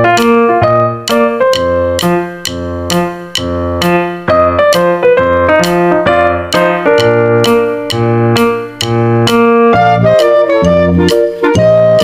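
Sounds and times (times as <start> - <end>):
bass line: 0.0 - 12.0
keyboard chords: 0.0 - 12.0.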